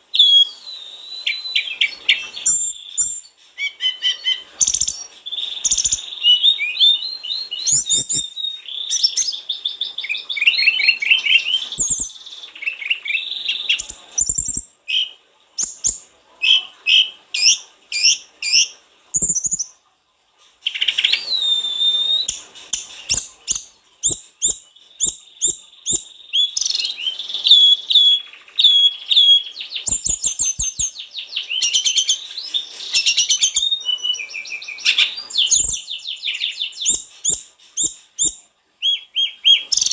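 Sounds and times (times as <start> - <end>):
songbird singing trills: 0.0 - 19.8, 20.6 - 39.9.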